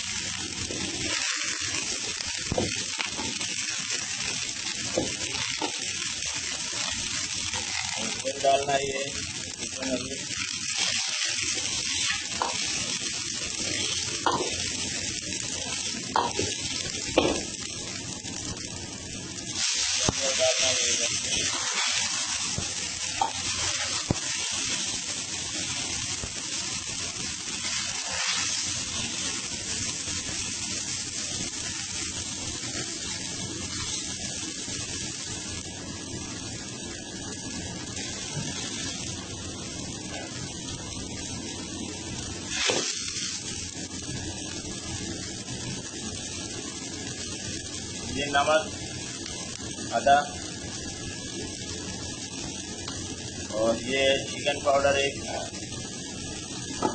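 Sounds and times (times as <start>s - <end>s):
food sizzling in hot oil: 0.0s - 56.9s.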